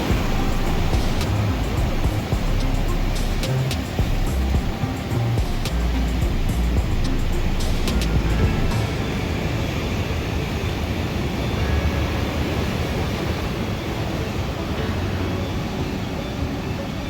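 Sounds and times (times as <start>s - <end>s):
sea surf: 0.0s - 17.0s
wind: 0.0s - 17.0s.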